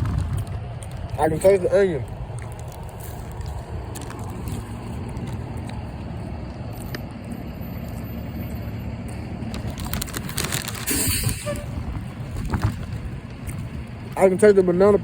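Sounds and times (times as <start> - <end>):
wind buffeting microphone: 0.0 - 7.2, 9.3 - 15.0.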